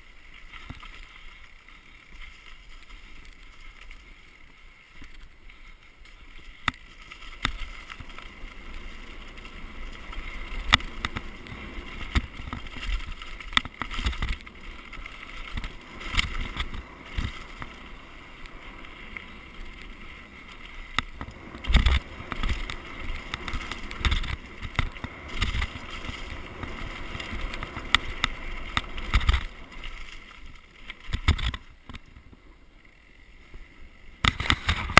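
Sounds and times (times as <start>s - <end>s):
bike knocking and rattling: 0.0s - 34.9s
wind and tyre noise: 0.0s - 34.9s.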